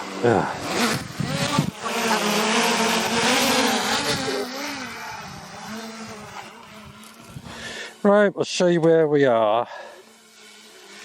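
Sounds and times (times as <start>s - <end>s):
drone propellers buzzing: 0.0s - 8.2s, 9.4s - 11.0s.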